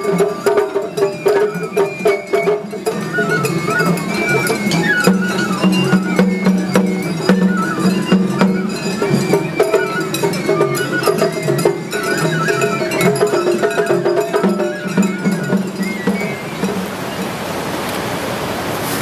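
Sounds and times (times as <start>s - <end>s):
light percussive strikes: 0.0s - 17.4s
traditional instrumental music: 0.0s - 17.9s.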